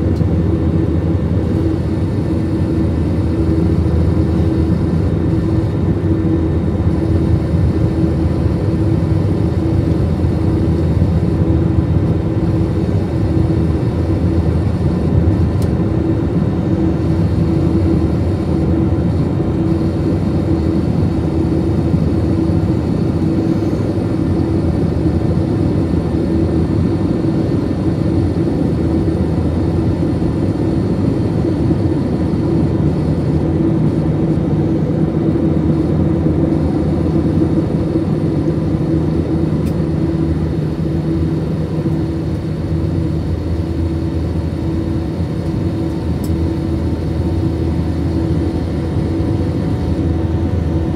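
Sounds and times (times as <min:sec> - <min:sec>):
jet engine cabin drone: 0:00.0 - 0:50.9.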